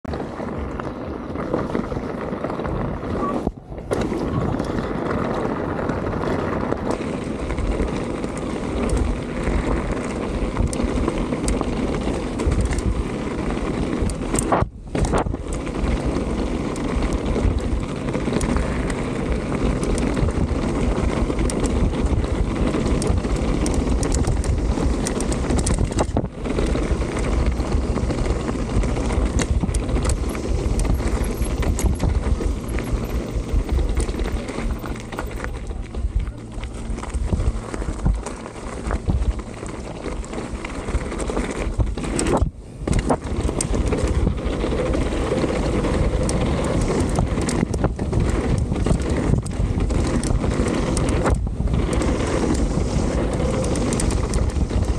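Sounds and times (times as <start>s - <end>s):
bike rattling and clicking: 0.0s - 54.9s
wind on microphone: 0.0s - 54.9s
tyres crunching over gravel: 0.1s - 54.9s.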